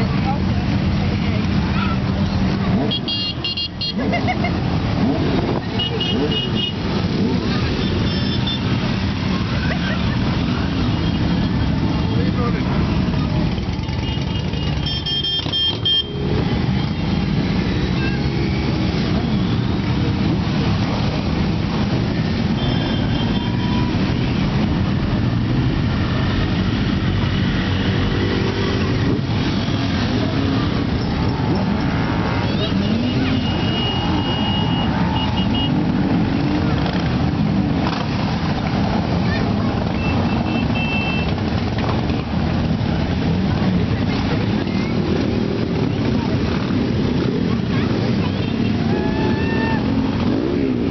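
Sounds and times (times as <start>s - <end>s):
motorcycle engines passing: 0.0s - 50.9s.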